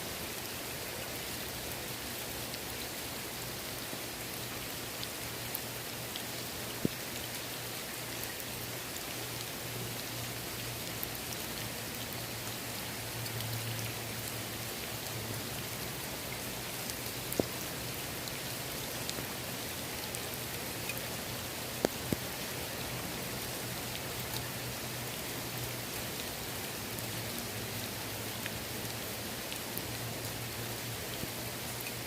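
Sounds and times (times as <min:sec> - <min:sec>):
rain on water surface: 0:00.0 - 0:32.0.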